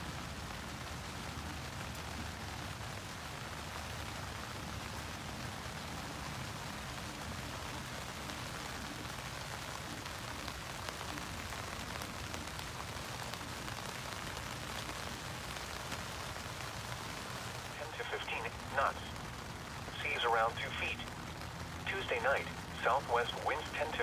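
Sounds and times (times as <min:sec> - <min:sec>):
rain pattering on tent fabric: 0:00.0 - 0:24.0.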